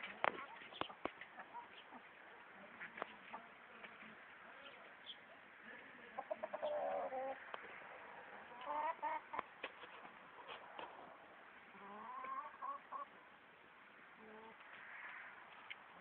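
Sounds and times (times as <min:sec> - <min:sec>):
chickens clucking: 0:00.0 - 0:13.2.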